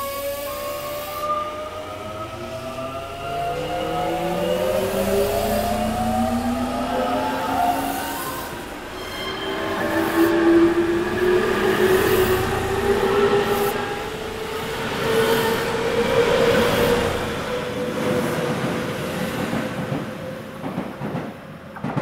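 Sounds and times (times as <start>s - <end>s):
wheels rumbling on rail: 0.0s - 22.0s.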